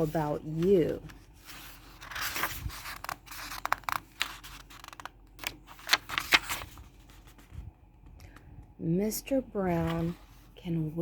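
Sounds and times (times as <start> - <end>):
book pages turning: 0.0 - 8.4, 9.7 - 10.6.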